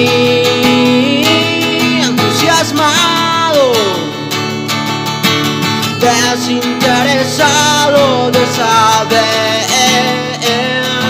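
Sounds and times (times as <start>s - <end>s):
guitar song with sliding melody: 0.0s - 11.0s.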